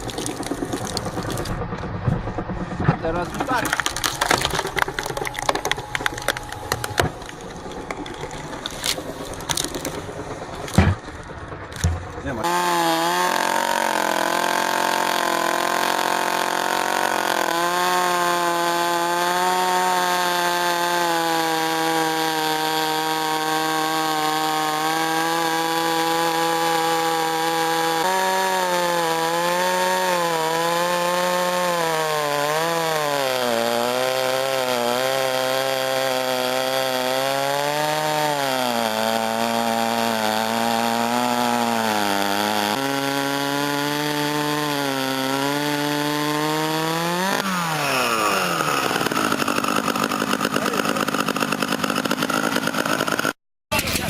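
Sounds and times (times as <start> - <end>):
chainsaw cutting wood: 0.0 - 1.8, 3.1 - 54.0.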